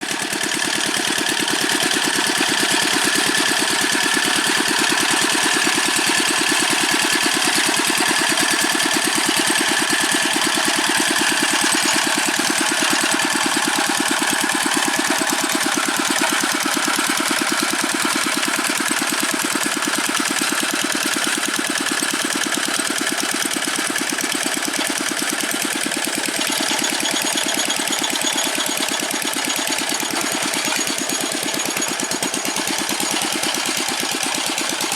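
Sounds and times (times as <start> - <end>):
diesel tractor engine knocking: 0.0 - 34.9.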